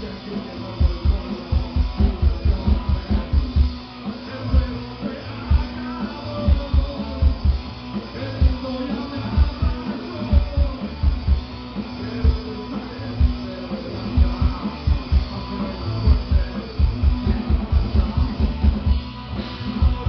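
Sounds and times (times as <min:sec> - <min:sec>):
distorted electric guitar: 0:00.0 - 0:20.0
rock band playing live: 0:00.0 - 0:20.0.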